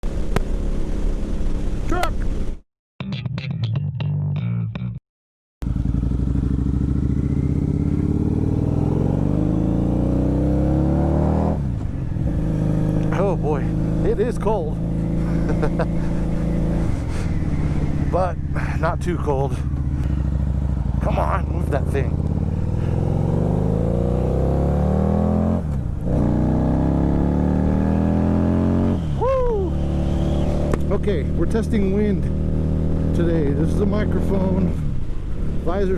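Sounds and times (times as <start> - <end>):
motorcycle engine accelerating: 0.0 - 2.6, 5.6 - 35.9.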